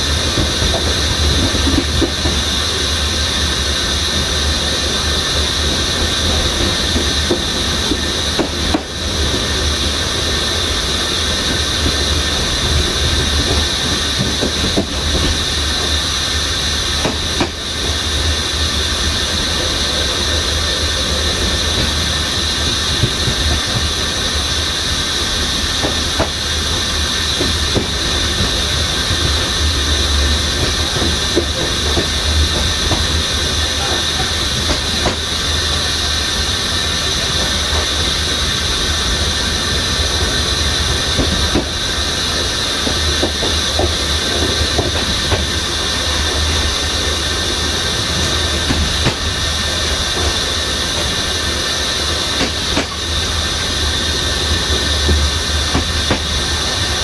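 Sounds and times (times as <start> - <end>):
high hiss: 0.0 - 57.0
train wheels rumbling on rail: 0.0 - 57.0.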